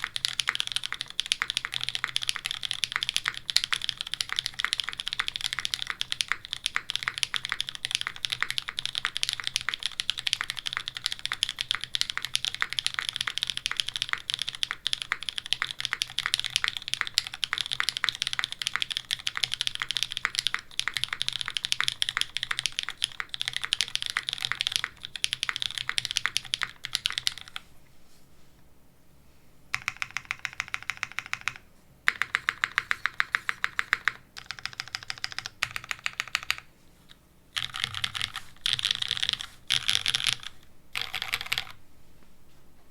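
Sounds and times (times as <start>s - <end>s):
mechanical keyboard typing: 0.0s - 27.6s, 29.7s - 36.7s, 37.6s - 41.8s.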